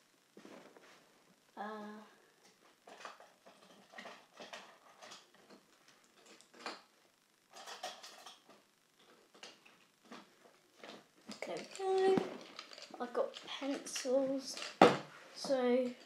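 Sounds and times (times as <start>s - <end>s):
pencils and objects clattering: 2.4s - 6.9s, 7.5s - 16.0s.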